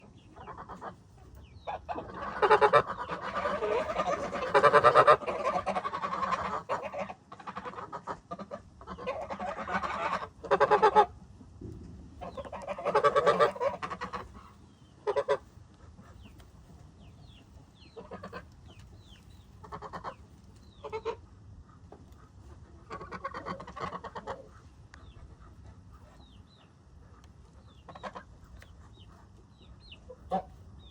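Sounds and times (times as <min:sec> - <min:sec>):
ducks quacking: 0:00.0 - 0:11.3, 0:12.2 - 0:30.9.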